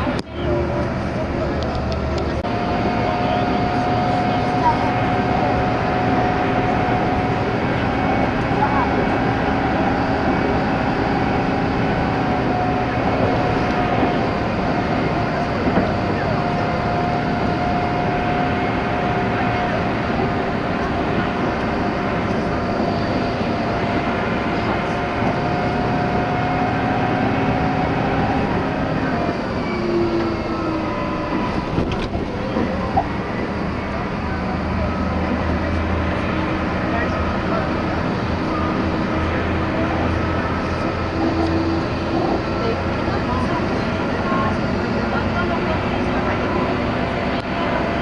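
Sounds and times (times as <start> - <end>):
engine running with hum: 0.0 - 48.0.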